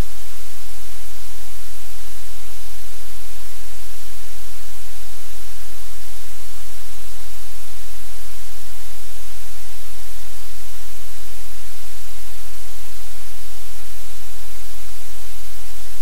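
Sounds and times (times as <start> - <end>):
static hiss: 0.0 - 16.0.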